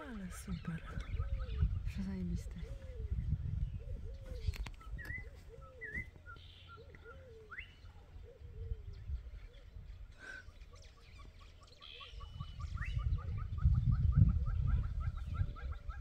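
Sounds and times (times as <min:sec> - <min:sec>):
birds chirping: 0:00.0 - 0:16.0
birds cooing: 0:00.0 - 0:16.0.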